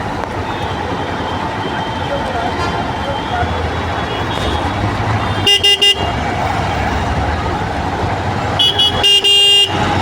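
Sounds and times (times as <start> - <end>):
rumble of engines: 0.0 - 10.0
vehicle horns honking: 0.4 - 7.2, 8.5 - 10.0.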